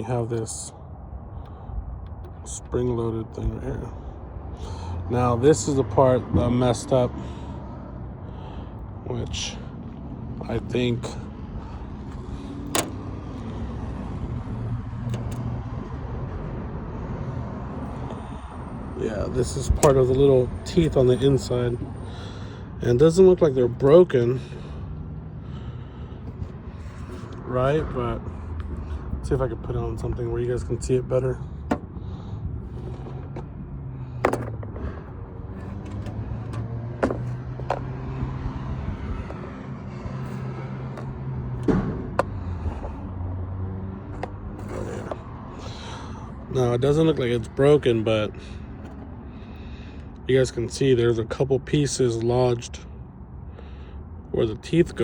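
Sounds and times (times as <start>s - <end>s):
low mechanical rumble with hum: 0.0s - 17.1s, 17.8s - 50.9s.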